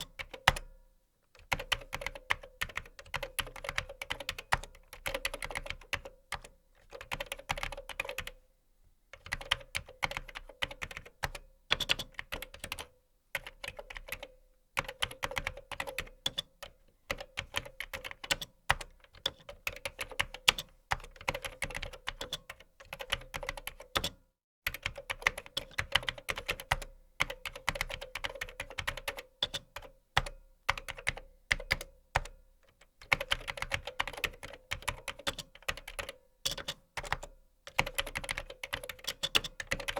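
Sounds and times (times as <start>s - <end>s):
computer keyboard typing: 1.4s - 8.4s, 9.2s - 39.9s.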